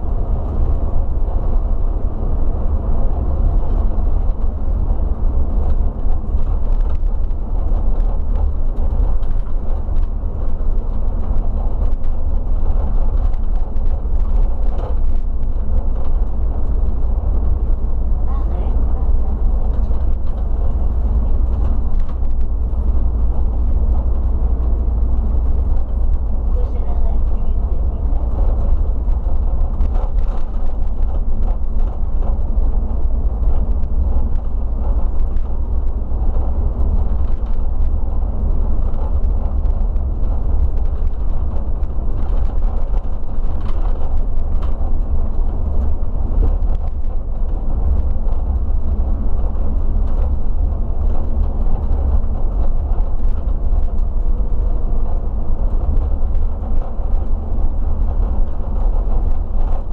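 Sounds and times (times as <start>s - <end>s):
coach engine rumbling: 0.0s - 59.9s
road noise: 0.0s - 59.9s.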